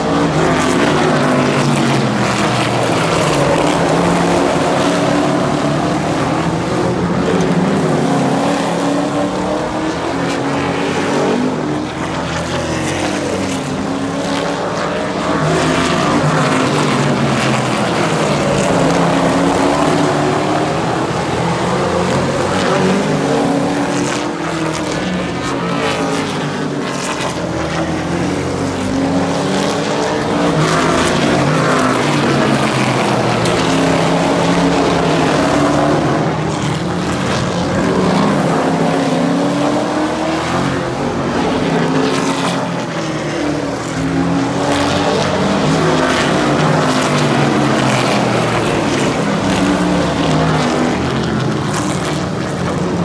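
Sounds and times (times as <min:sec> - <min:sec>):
race cars passing: 0:00.0 - 0:53.0.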